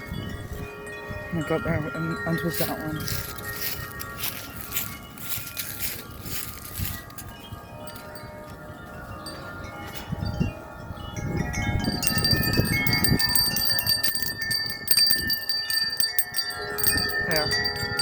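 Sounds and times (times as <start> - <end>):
gusty wind: 0.0 - 18.0
wind chimes ringing: 0.0 - 18.0.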